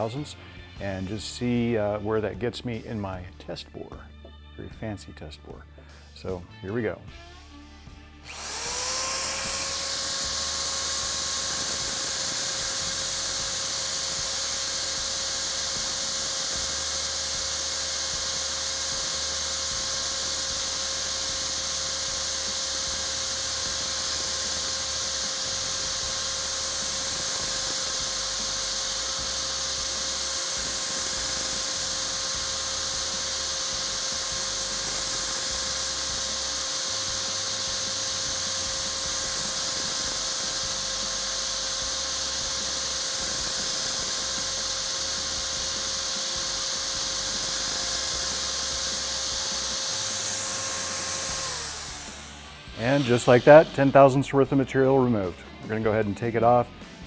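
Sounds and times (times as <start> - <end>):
electric drill whining: 0.0 - 1.0, 8.2 - 56.0.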